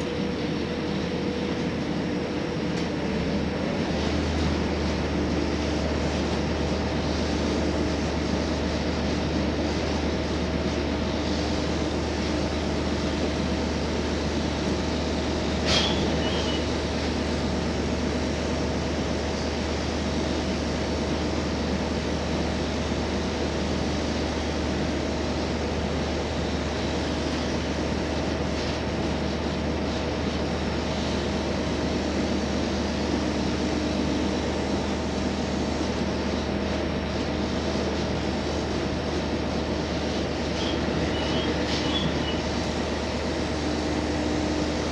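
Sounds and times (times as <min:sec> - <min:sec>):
rail noise: 0:00.0 - 0:44.9
railcar diesel engine drone: 0:00.0 - 0:44.9.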